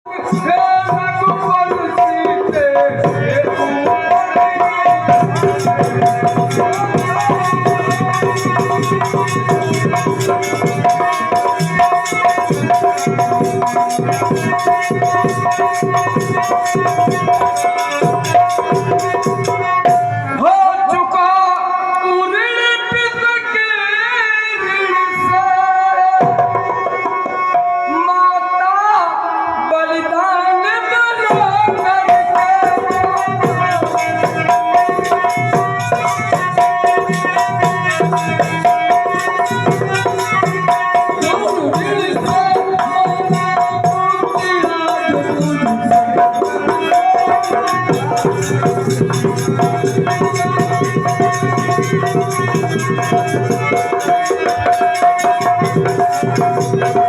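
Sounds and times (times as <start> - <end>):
fast hand-drum strokes: 0.1 - 20.3, 31.3 - 57.0.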